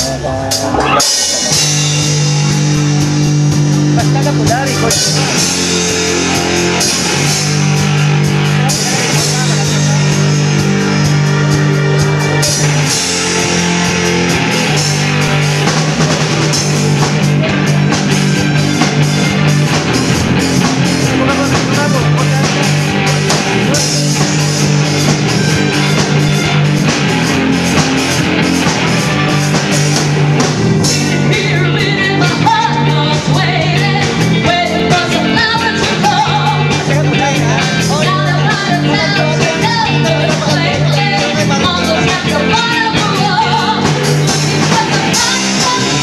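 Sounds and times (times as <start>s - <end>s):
live rock band playing: 0.0s - 46.0s
steady drum beat: 0.0s - 46.0s.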